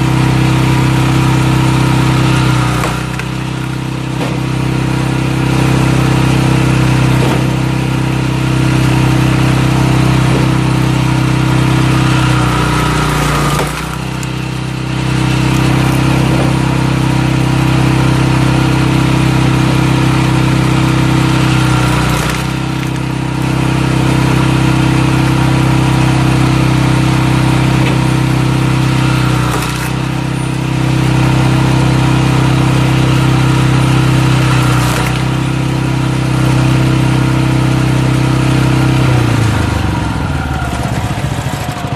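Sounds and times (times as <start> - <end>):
small engine running: 0.0 - 41.9
log splitting: 0.1 - 39.1.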